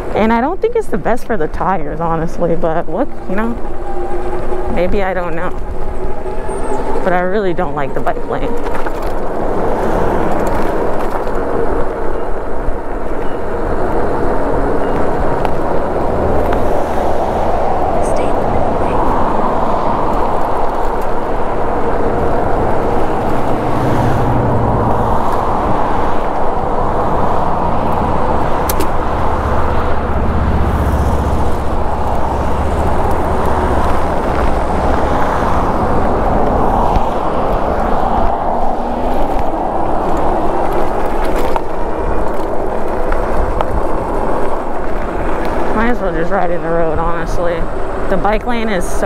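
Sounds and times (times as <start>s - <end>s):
motor traffic passing: 0.0s - 49.0s
wind and road noise on helmet: 0.0s - 49.0s.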